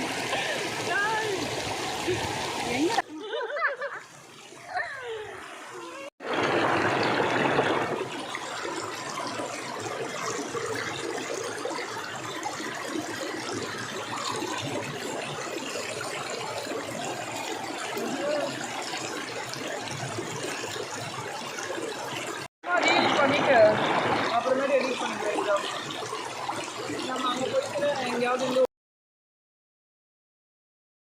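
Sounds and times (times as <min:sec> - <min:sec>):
stream water rushing: 0:00.0 - 0:28.7.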